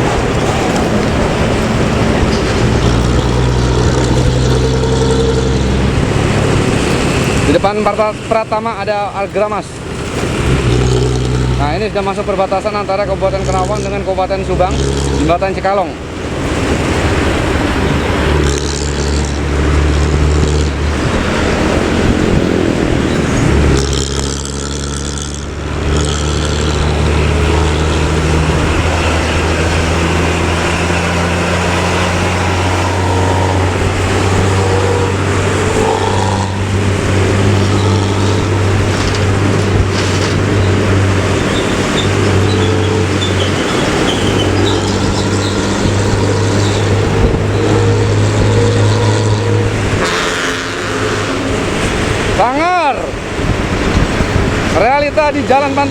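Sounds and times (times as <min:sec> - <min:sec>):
diesel bus engine droning: 0:00.0 - 0:55.9.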